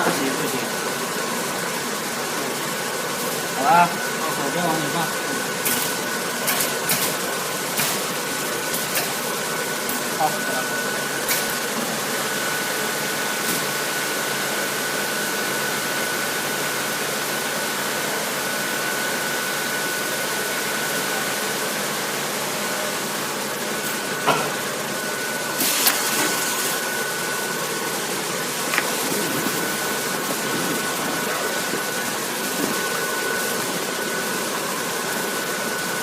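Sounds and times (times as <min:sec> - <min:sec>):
high machine whine: 0:00.0 - 0:36.0.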